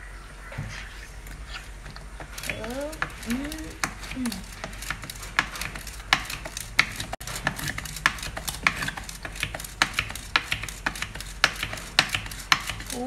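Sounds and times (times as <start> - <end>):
whisk clicking against steel bowl: 1.2 - 13.0.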